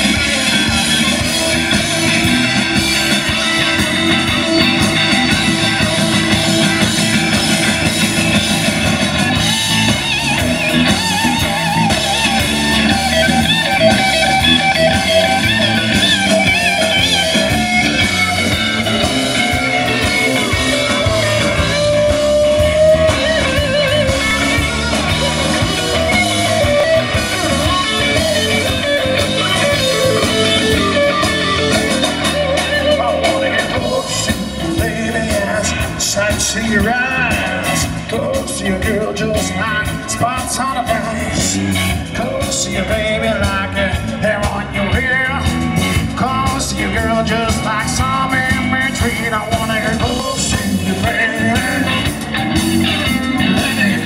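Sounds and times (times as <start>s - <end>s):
electric guitar bent notes: 0.0s - 54.0s
rock band playing live: 0.0s - 54.0s.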